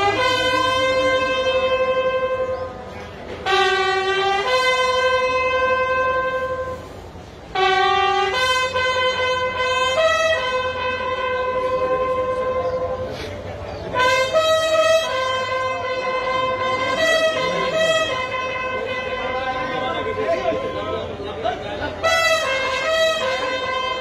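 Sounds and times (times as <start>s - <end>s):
bugle call: 0.0s - 21.2s, 21.8s - 24.0s.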